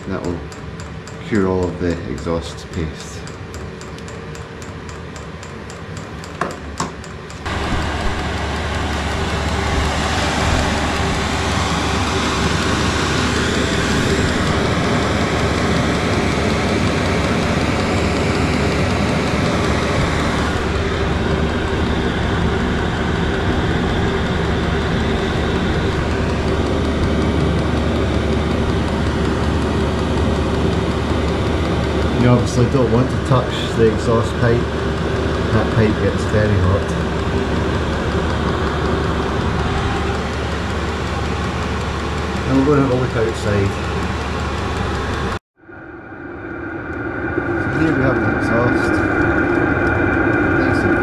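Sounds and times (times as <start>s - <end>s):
heater ticking: 0.0s - 45.4s, 46.5s - 51.0s
heater exhaust rumbling: 0.0s - 51.0s.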